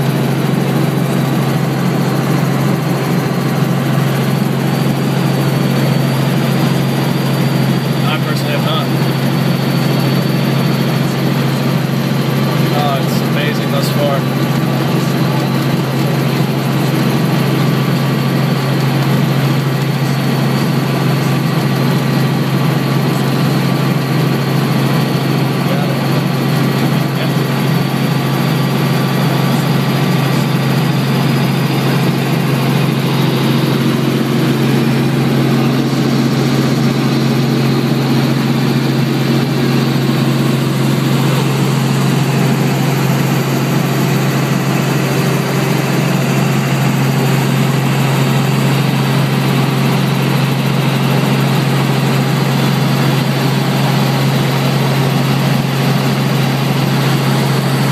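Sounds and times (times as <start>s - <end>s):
helicopter engine and rotor drone: 0.0s - 57.9s.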